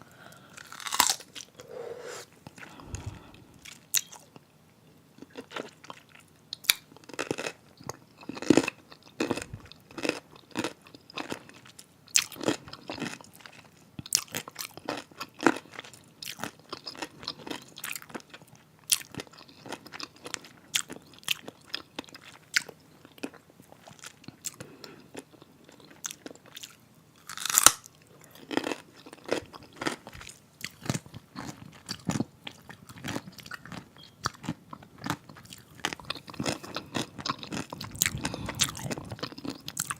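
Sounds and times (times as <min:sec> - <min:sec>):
crunching and chewing pickle: 0:00.3 - 0:01.7, 0:02.3 - 0:39.9.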